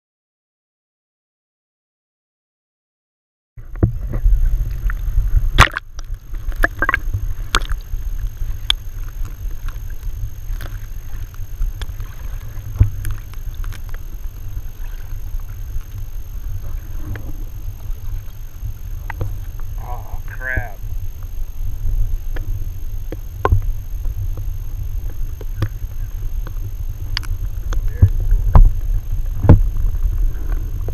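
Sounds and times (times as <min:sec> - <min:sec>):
muffled underwater rumble: 0:03.6 - 0:30.9.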